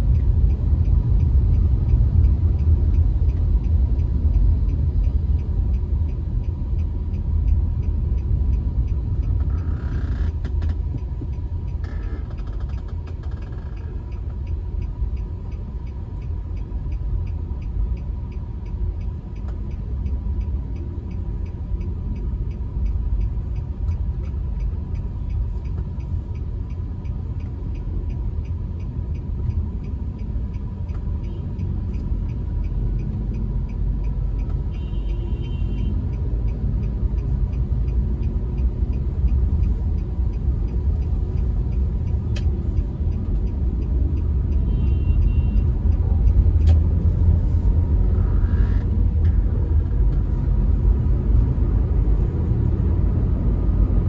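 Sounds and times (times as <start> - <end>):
car cabin road and engine rumble: 0.0 - 54.0.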